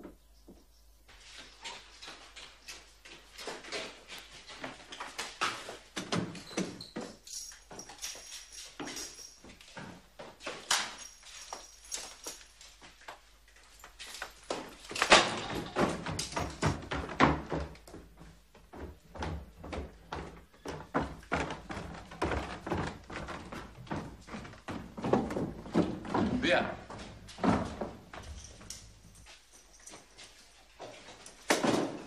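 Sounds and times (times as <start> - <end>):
boots hurrying down stairs: 2.2 - 32.0.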